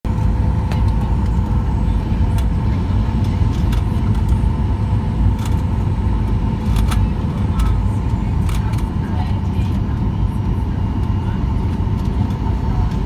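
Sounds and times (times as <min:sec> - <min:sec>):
airliner landing rumble: 0:00.1 - 0:13.0
steady whine: 0:00.1 - 0:13.0.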